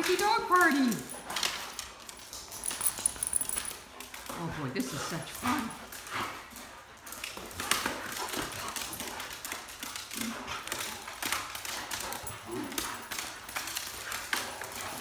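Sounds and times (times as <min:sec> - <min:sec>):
dog claws scrabbling on tile: 0:01.1 - 0:04.4, 0:05.5 - 0:15.0.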